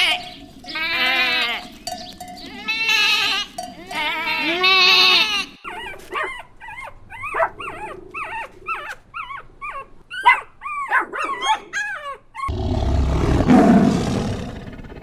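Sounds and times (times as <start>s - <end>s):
high-pitched animal cries: 0.0s - 12.5s.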